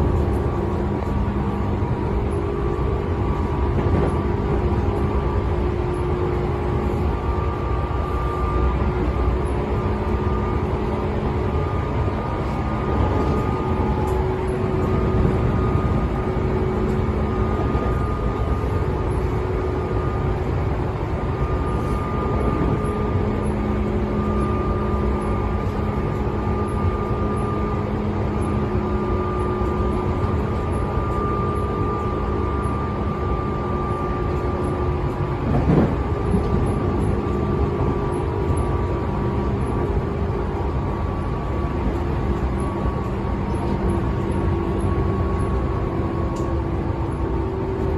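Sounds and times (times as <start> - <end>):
traction motor hum: 0.0 - 47.9
wheels rumbling on rail: 0.0 - 47.9.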